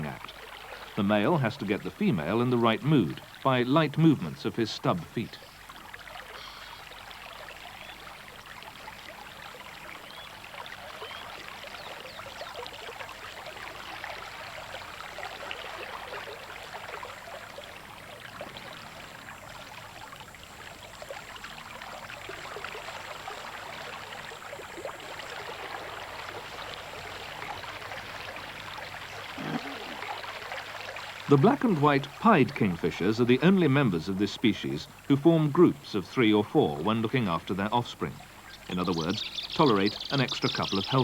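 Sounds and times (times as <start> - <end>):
river water rippling: 0.0 - 41.0.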